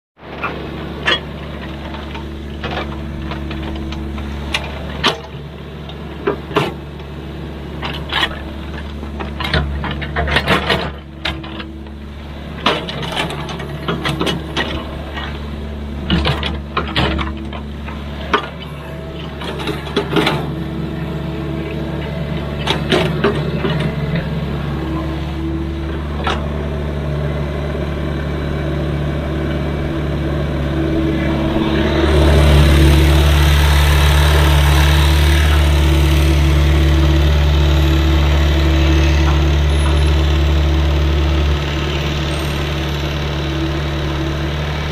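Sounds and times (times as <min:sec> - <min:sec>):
diesel engine running: 0:00.2 - 0:44.9.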